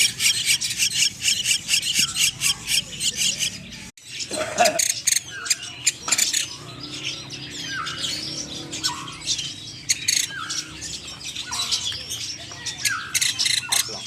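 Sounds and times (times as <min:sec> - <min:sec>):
songbirds chirping and squawking: 0:00.0 - 0:14.0.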